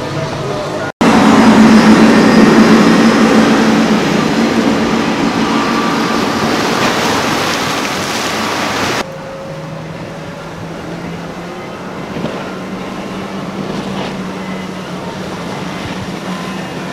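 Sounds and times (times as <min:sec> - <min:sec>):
outboard boat engines running: 0:00.0 - 0:16.9
rushing water and spray: 0:00.0 - 0:16.9.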